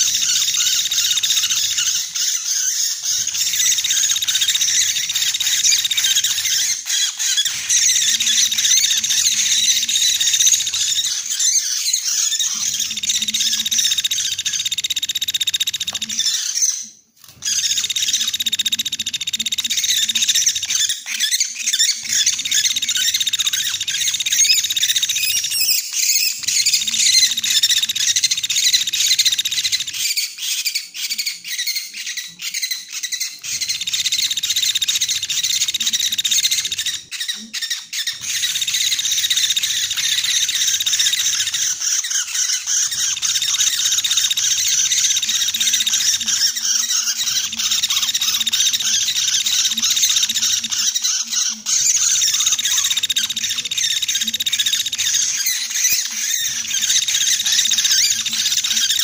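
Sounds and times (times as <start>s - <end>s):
woodpecker chirping and trilling: 0.0s - 59.0s.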